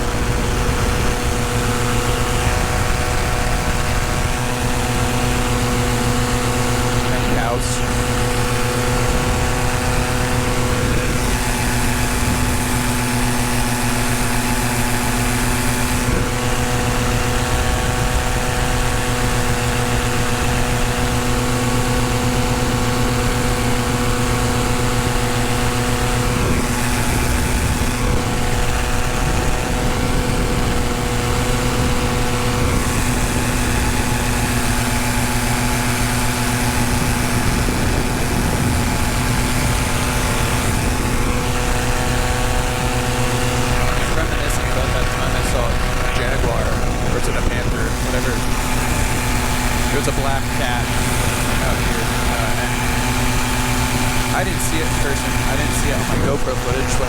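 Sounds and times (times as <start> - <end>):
paramotor engine drone: 0.0 - 57.0.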